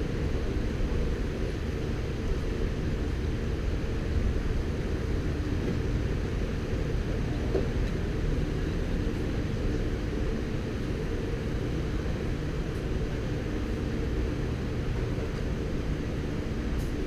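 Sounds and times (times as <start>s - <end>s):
muffled low outdoor rumble: 0.0s - 17.0s.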